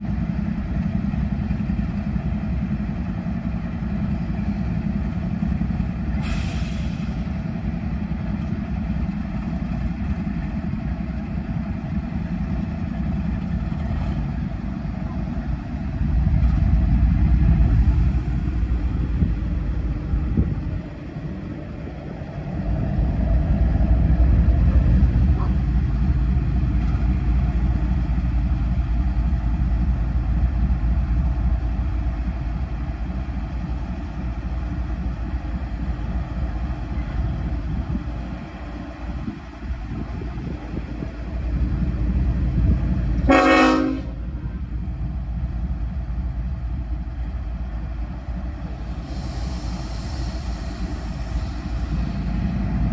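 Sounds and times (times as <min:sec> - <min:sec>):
locomotive engines rumbling: 0:00.0 - 0:52.9.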